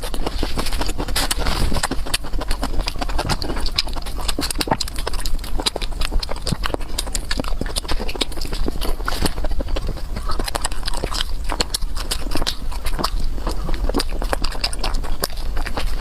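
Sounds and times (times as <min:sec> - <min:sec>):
chewing with wet clicks and crunches: 0:00.0 - 0:16.0.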